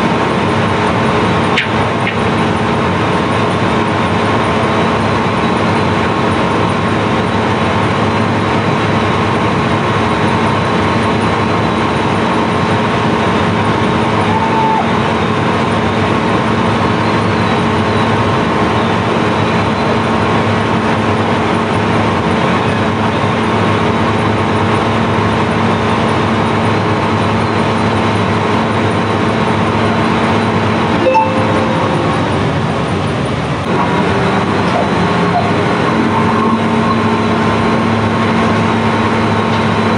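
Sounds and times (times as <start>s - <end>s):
machinery humming with rushing noise: 0.0s - 39.9s.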